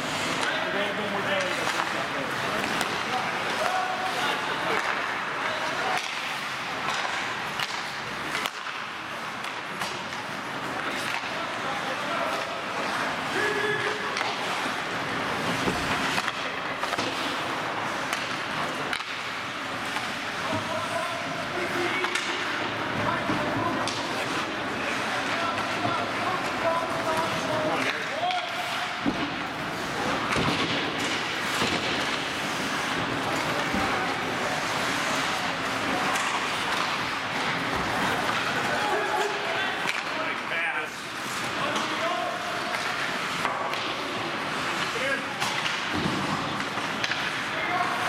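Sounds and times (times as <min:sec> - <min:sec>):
hockey sticks and puck clacking: 0:00.0 - 0:48.0
skates scraping ice: 0:00.0 - 0:48.0.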